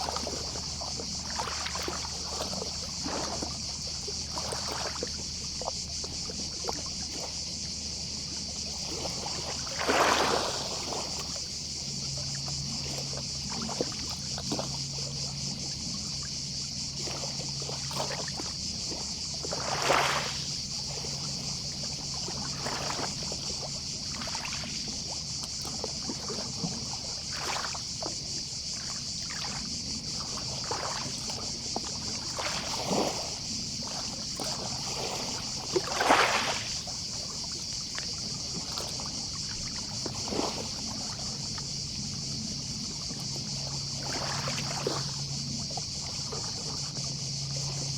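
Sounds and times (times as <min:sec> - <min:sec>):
distant cicadas chorus: 0:00.0 - 0:47.9
waves lapping at shore: 0:00.0 - 0:47.9.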